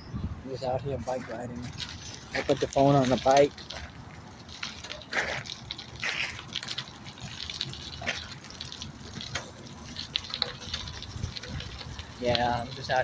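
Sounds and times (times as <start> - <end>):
rumble of tyres and wind: 0.0 - 13.0
small rattles and clicks: 1.1 - 13.0.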